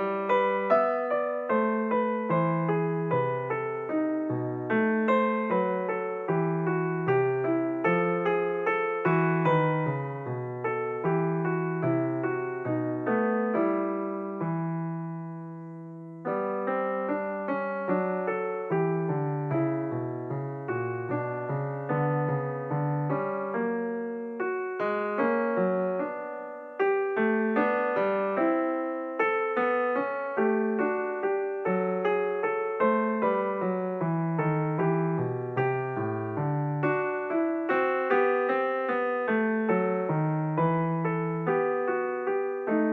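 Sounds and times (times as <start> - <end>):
solo piano music: 0.0 - 42.9.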